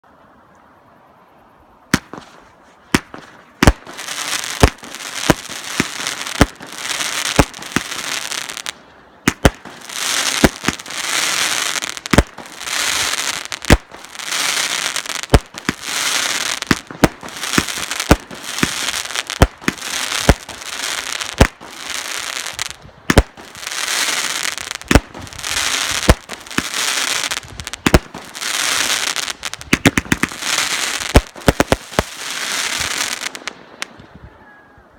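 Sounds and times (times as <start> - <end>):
firework shots: 1.9 - 33.9
firework crackling: 1.9 - 34.0.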